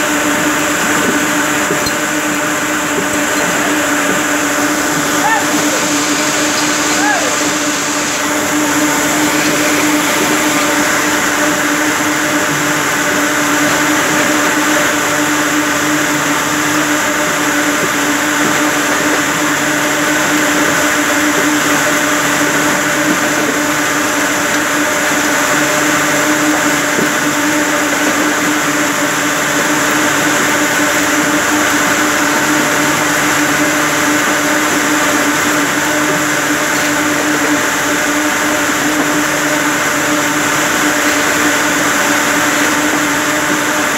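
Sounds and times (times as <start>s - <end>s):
spinning machines droning: 0.0s - 43.9s.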